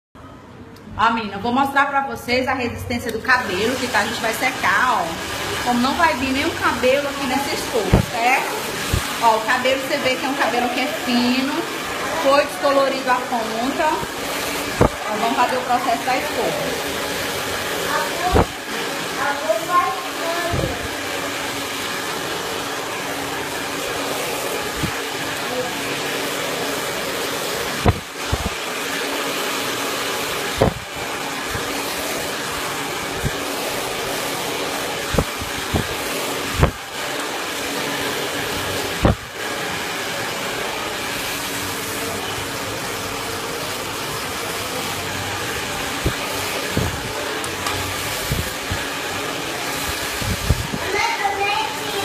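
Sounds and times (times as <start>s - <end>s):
hair dryer running: 3.0s - 52.0s.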